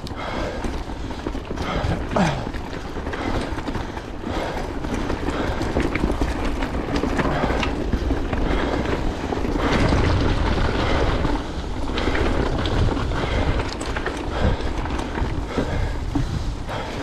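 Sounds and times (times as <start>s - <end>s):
bike tyres crunching over gravel: 0.0s - 17.0s.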